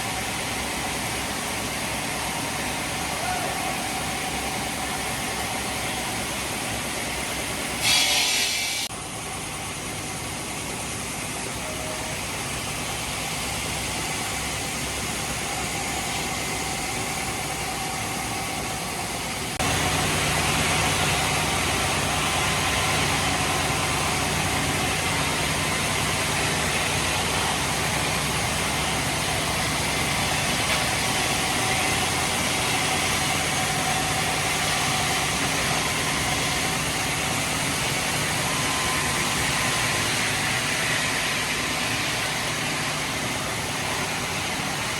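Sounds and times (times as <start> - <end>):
heavy machinery engine running: 8.8 - 44.9.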